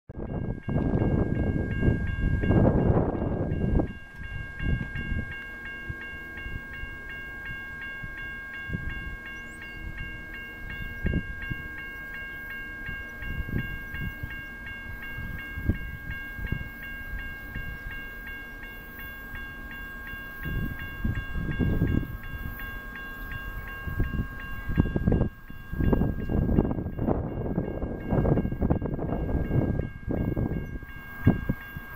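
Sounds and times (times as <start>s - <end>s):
wind rumbling on microphone: 0.1s - 11.9s, 12.8s - 18.0s, 20.3s - 31.9s
railroad crossing bell dinging: 0.1s - 31.9s.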